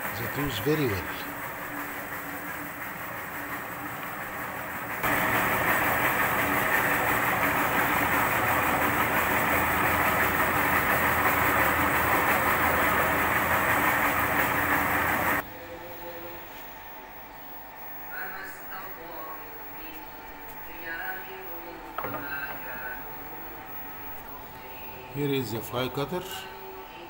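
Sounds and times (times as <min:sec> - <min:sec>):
machine running hum: 0:00.0 - 0:27.0.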